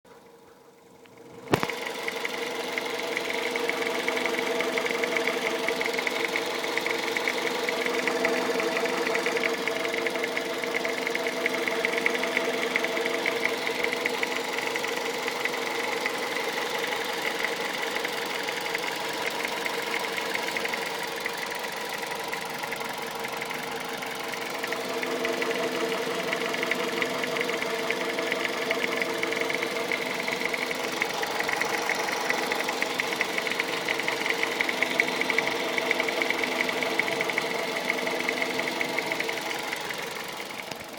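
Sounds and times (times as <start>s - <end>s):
car engine running: 0.2s - 40.9s
rapid engine ticking: 0.2s - 40.9s.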